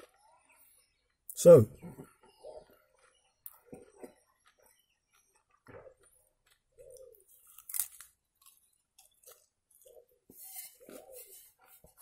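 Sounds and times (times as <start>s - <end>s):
person chewing bread: 2.0s - 12.0s.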